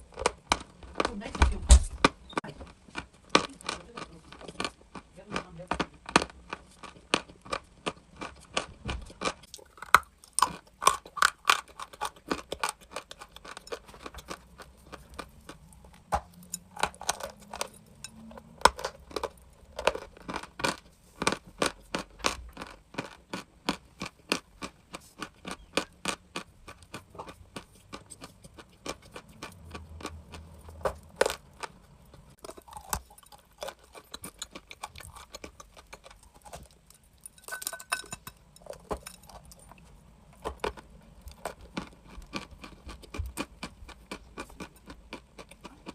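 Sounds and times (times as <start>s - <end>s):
chalk crunching while chewed: 2.4s - 45.9s.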